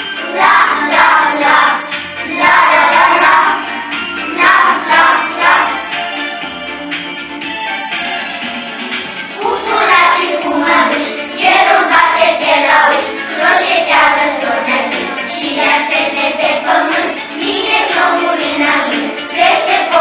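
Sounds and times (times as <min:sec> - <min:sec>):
children singing: 0:00.0 - 0:05.9, 0:09.3 - 0:20.0
backing track with steady beat: 0:00.0 - 0:20.0.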